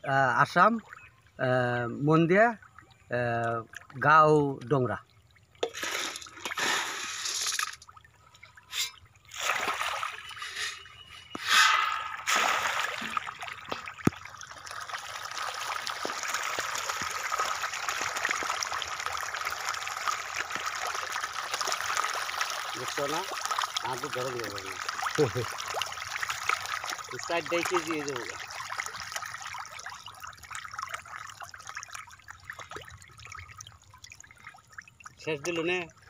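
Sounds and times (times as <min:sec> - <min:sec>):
fish splashing at water surface: 0:05.6 - 0:08.0, 0:08.6 - 0:35.1.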